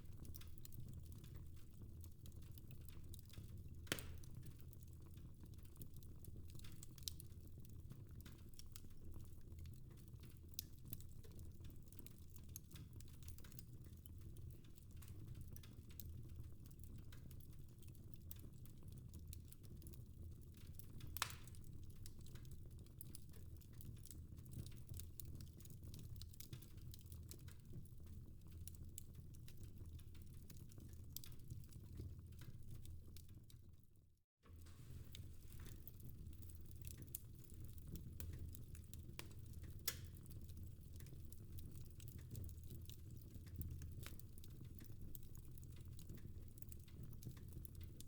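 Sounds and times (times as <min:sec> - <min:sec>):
fireplace fire crackling: 0:00.0 - 0:33.8, 0:34.4 - 0:48.0.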